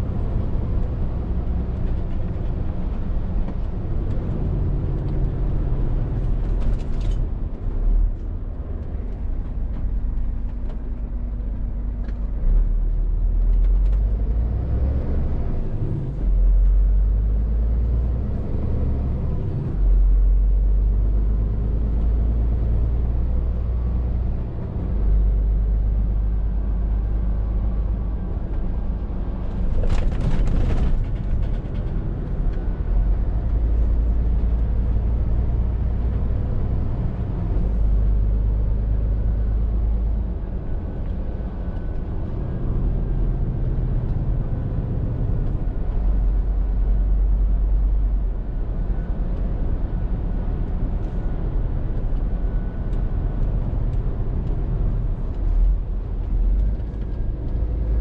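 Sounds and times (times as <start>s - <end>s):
lorry diesel engine drone: 0.0s - 58.0s.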